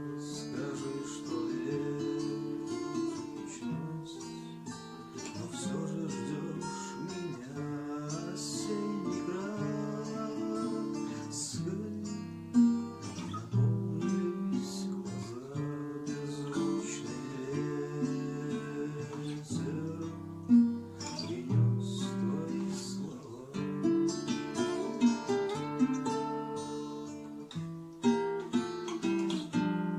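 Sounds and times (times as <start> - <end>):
acoustic guitar strumming chords: 0.0 - 29.9.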